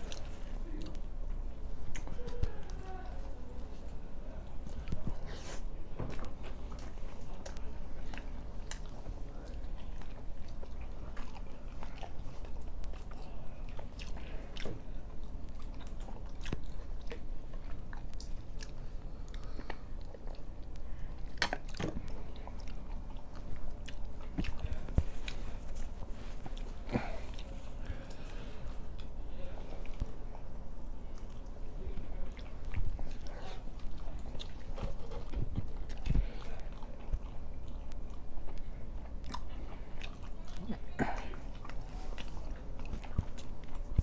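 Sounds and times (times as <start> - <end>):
chewing and biting flatbread: 0.0 - 2.9, 3.6 - 44.0.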